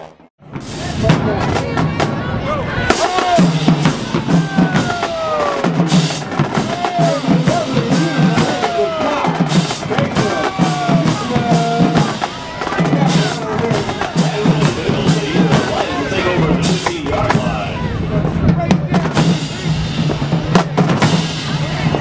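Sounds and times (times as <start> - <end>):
drums beating rhythmic pattern: 0.4 - 22.0
crowd shouting: 0.6 - 19.8.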